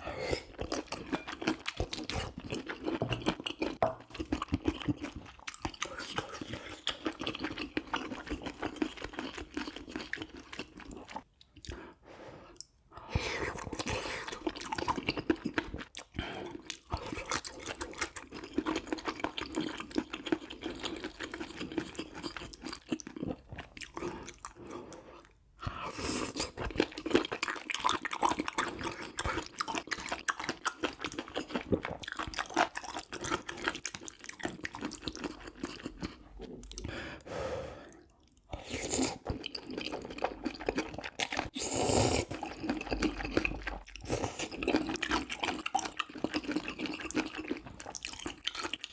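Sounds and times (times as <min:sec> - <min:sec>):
person chewing and crunching food: 0:00.0 - 0:48.9.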